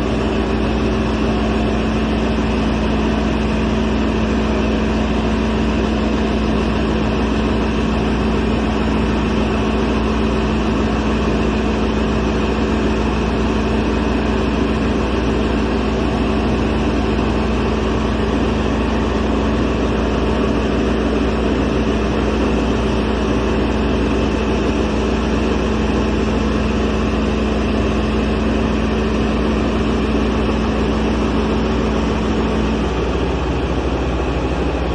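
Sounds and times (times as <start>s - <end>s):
drilling rig machine drone: 0.0s - 34.9s.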